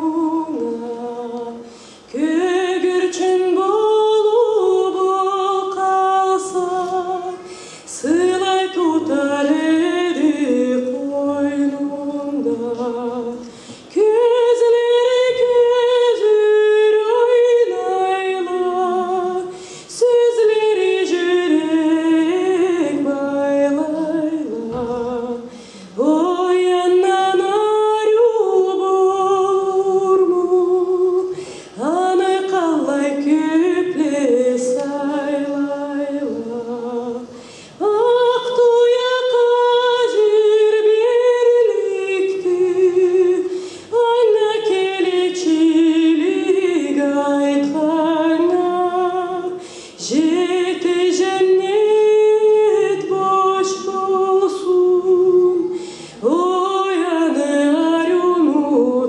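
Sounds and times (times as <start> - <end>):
woman singing unaccompanied: 0.0 - 59.0.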